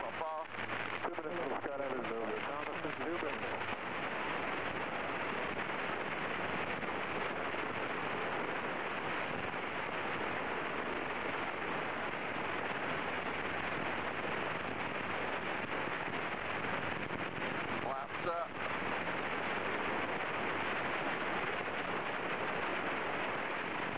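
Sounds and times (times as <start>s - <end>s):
aircraft cockpit engine and airflow: 0.0s - 23.9s.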